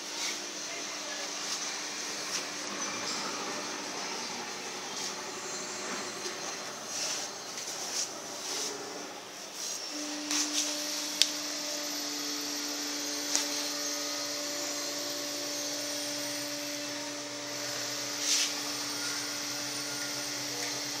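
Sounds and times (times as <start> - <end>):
blower fan humming: 0.0 - 21.0.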